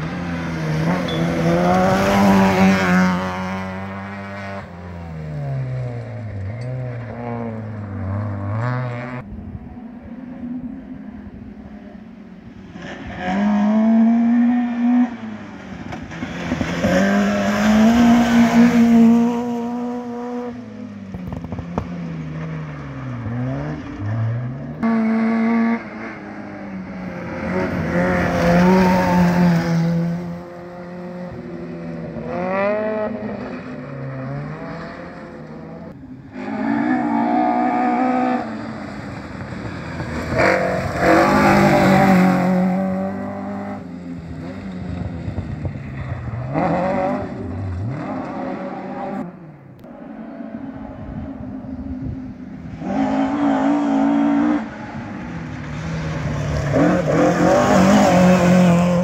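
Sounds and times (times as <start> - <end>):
rally car engine revving: 0.0 - 9.3, 12.7 - 59.0.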